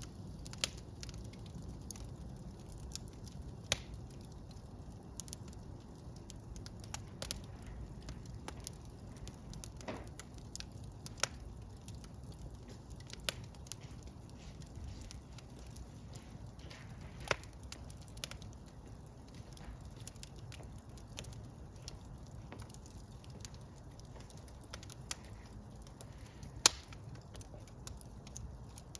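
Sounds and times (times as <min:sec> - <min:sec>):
fire crackling and popping: 0:00.0 - 0:28.9
wood fire rumbling: 0:00.0 - 0:28.9.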